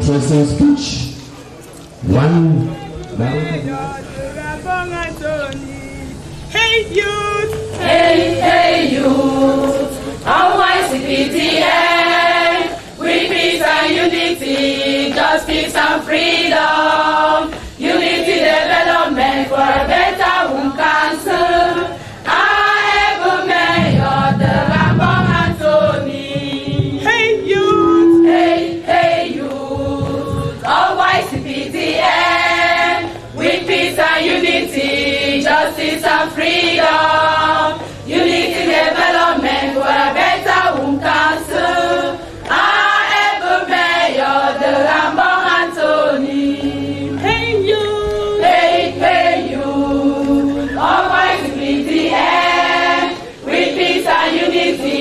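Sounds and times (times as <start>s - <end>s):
women's choir singing: 7.5s - 55.0s.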